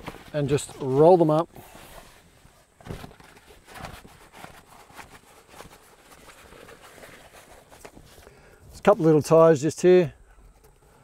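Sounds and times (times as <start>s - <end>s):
canvas fabric rustling: 0.0s - 9.3s.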